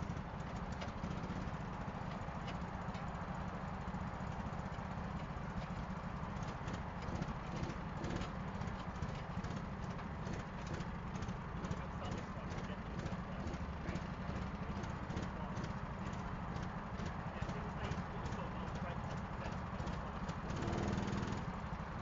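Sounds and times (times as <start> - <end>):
kart engines idling: 0.0 - 22.0.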